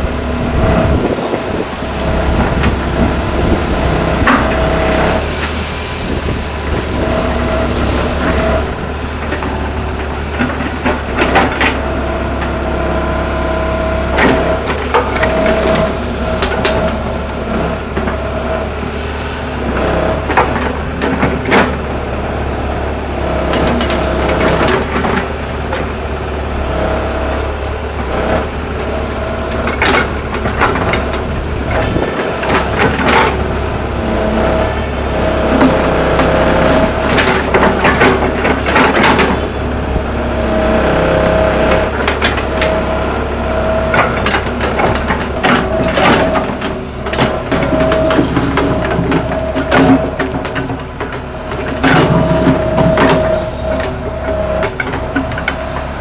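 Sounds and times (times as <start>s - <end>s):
excavator diesel engine running: 0.0s - 56.0s
hydraulic whine: 0.0s - 56.0s
bucket knocking and scraping soil: 0.1s - 21.9s, 28.4s - 56.0s.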